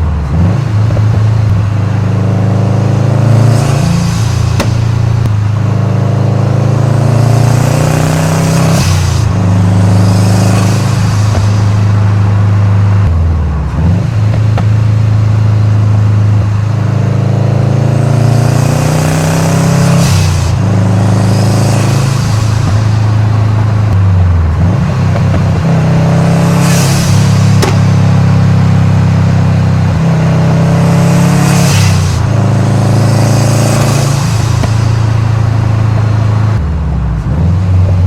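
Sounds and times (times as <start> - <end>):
car engine accelerating hard: 0.0 - 38.0.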